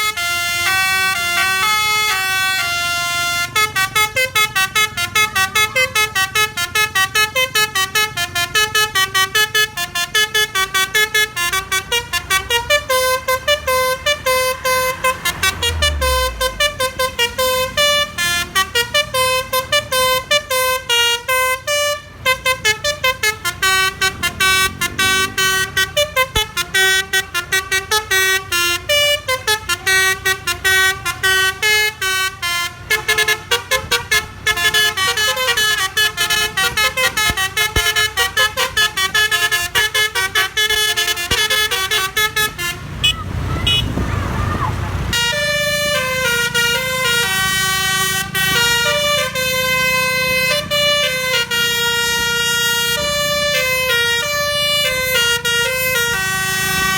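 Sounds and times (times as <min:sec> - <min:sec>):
air horn playing melody: 0:00.0 - 0:44.0, 0:45.1 - 0:56.9.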